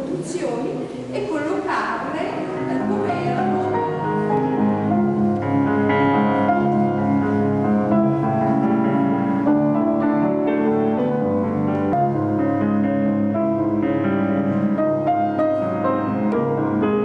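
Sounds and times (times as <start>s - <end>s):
slow grand piano piece: 0.0s - 17.0s.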